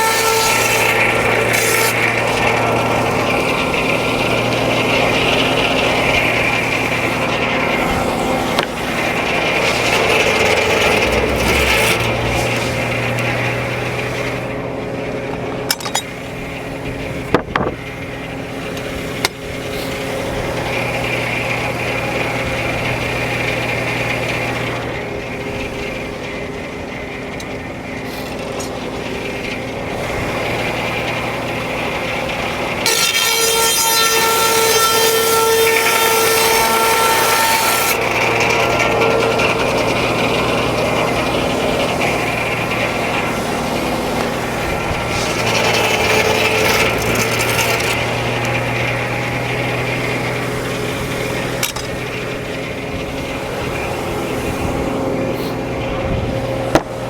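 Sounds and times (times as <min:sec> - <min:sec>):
circular saw cutting log: 0:00.0 - 0:57.0
drive engine running: 0:00.0 - 0:57.0.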